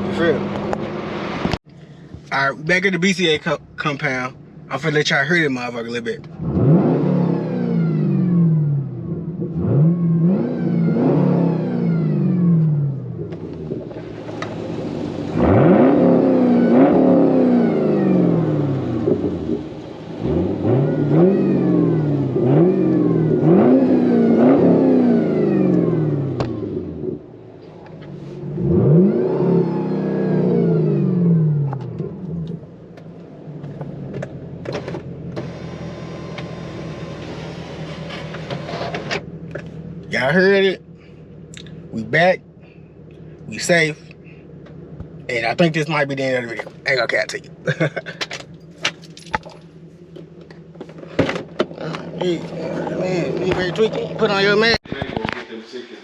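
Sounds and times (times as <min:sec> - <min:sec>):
car engine revving: 0:00.0 - 0:01.7, 0:02.7 - 0:56.0.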